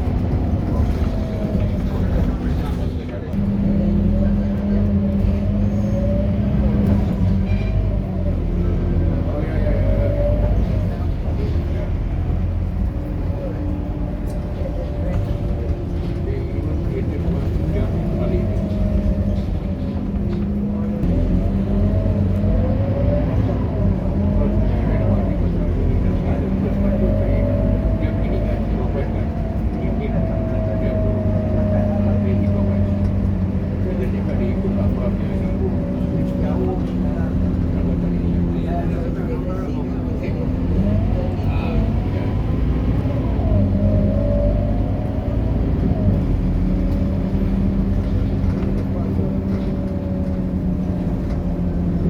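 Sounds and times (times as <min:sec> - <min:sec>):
bus diesel engine running: 0:00.0 - 0:52.0.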